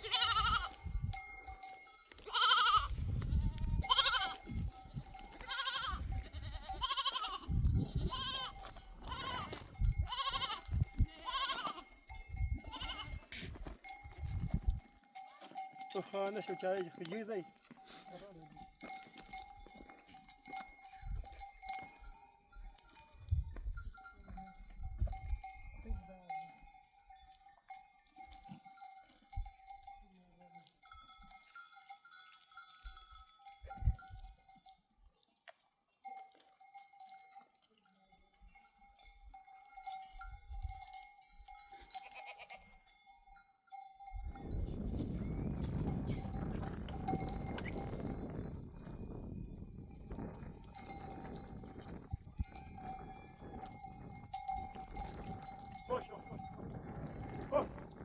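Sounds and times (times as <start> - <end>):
sheep bells clinking: 0.0 - 58.0.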